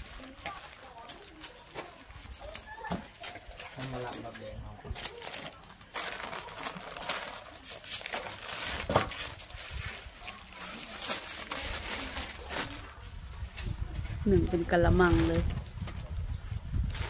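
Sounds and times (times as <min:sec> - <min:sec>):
plastic bags crinkling: 0:00.0 - 0:13.1, 0:14.4 - 0:17.0.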